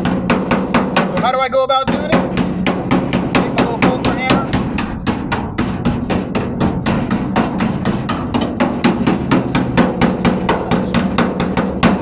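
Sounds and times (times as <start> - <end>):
pick hammer tapping sheet metal: 0.0 - 12.0.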